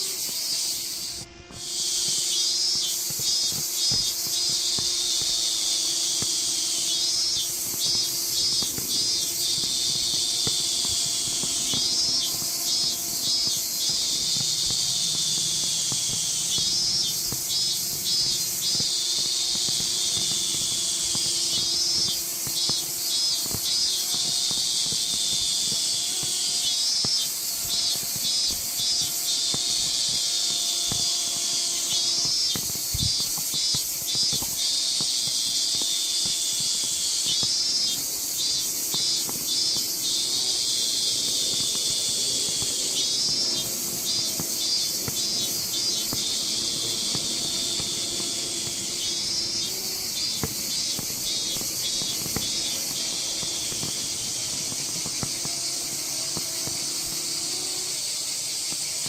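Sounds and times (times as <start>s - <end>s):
cicadas singing: 0.0s - 59.0s.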